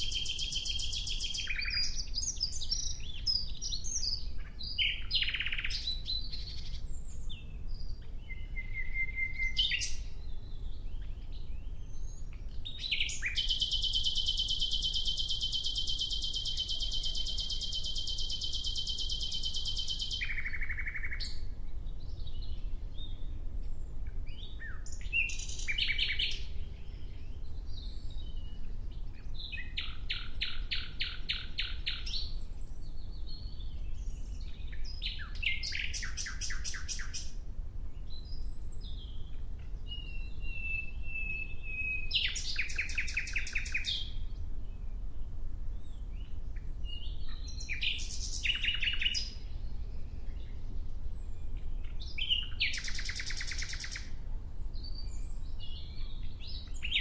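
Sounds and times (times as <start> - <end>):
nightingale singing: 0.0 - 23.3, 24.0 - 37.4, 38.0 - 44.9, 45.8 - 54.2, 54.8 - 57.0.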